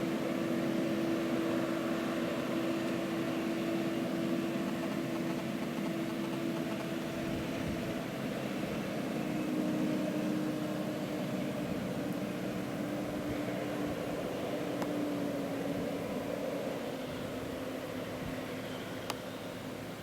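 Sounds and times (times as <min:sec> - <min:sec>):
tractor diesel engine running: 0:00.0 - 0:19.7.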